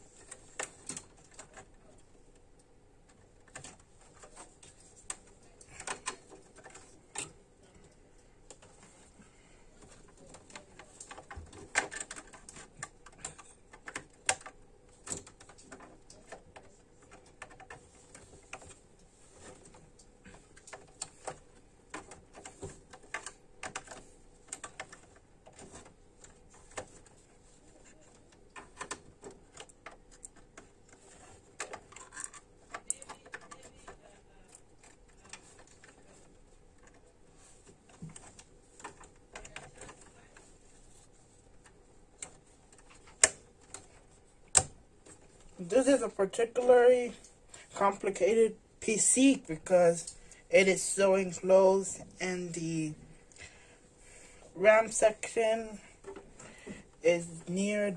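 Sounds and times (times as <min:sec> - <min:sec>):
plastic parts clicking and tapping: 0:00.1 - 0:47.8.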